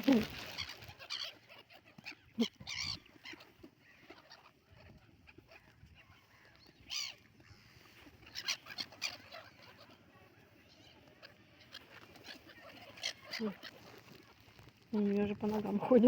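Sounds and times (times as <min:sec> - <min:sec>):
domestic fowl calling: 0:00.0 - 0:16.0.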